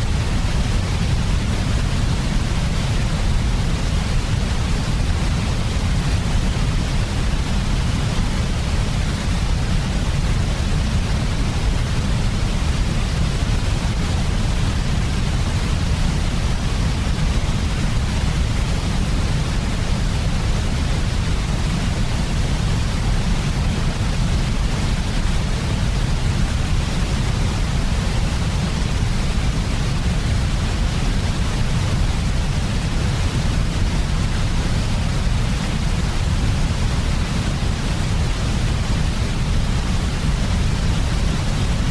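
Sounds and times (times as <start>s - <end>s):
synthetic white noise: 0.0s - 41.9s.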